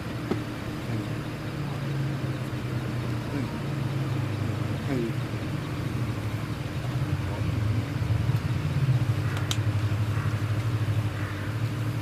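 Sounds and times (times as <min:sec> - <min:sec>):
car engine hum from cabin: 0:00.0 - 0:12.0.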